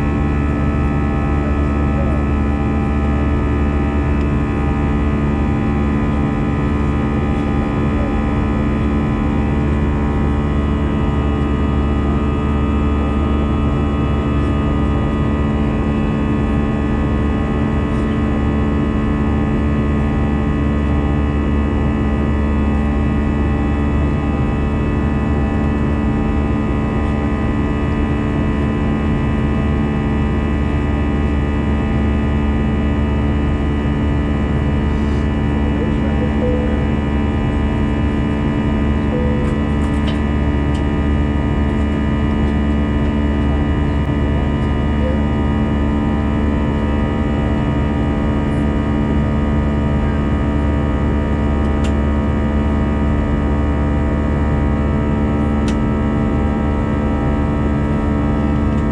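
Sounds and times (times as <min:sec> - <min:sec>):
jet engine roar in cabin: 0:00.0 - 0:58.9.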